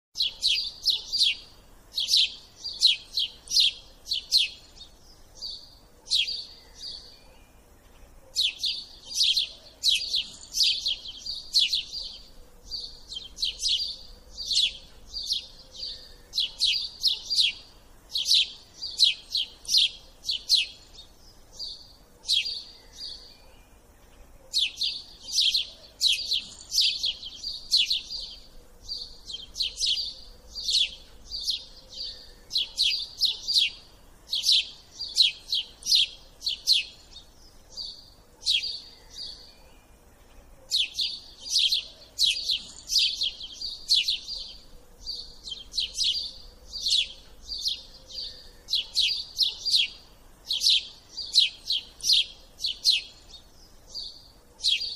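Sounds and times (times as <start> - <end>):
small bird chirping: 0.2 - 54.9.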